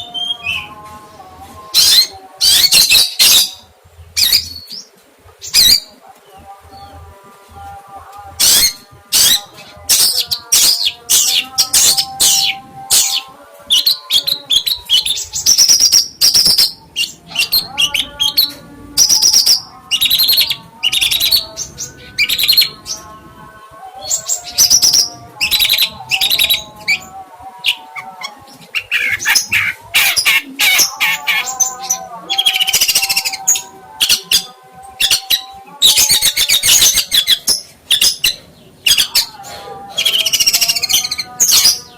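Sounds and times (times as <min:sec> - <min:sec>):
songbird chirps and trills: 0:00.0 - 0:41.9.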